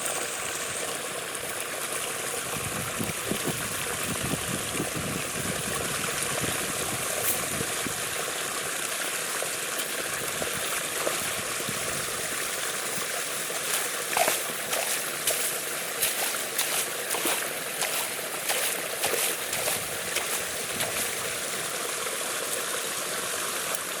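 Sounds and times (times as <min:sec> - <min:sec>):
water splashes and gurgles: 0:00.0 - 0:24.0.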